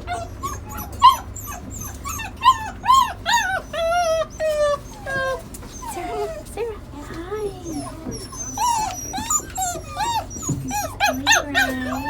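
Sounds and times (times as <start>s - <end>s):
dog whining and whimpering: 0.0s - 12.0s.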